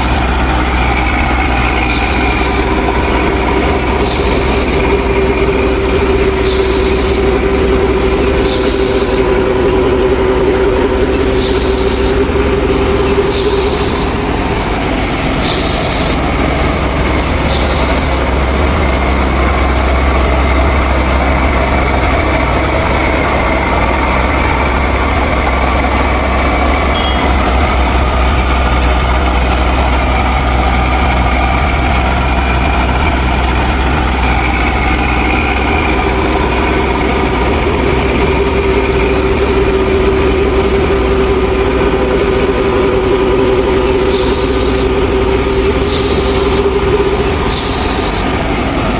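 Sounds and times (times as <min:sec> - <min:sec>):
steady engine-like drone: 0:00.0 - 0:48.9.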